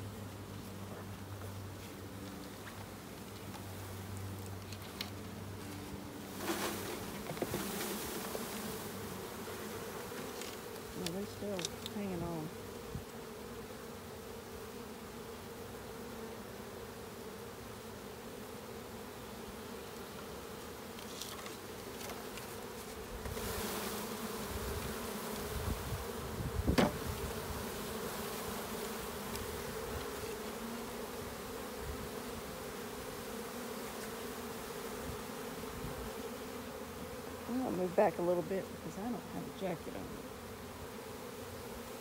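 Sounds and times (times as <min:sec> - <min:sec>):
bee swarm buzzing: 0:00.0 - 0:42.0.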